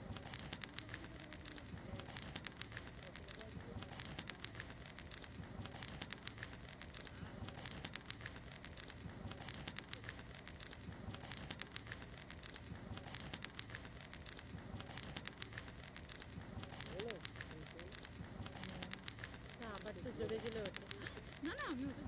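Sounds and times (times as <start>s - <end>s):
bonfire crackling and popping: 0.0s - 22.0s
insects trilling: 0.0s - 22.0s.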